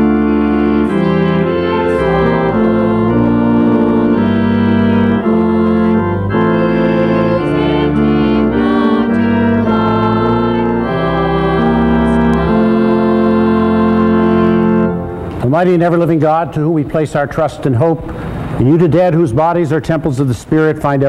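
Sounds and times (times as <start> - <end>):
organ playing chords: 0.0 - 19.8.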